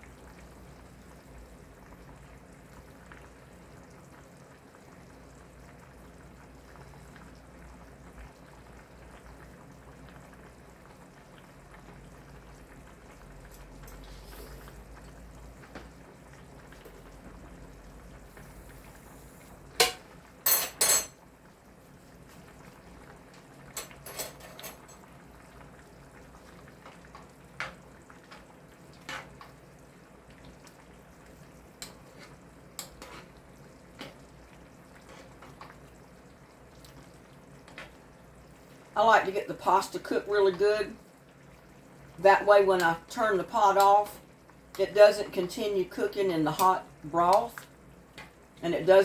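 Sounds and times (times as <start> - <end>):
soup simmering: 0.0 - 20.4, 21.1 - 49.0.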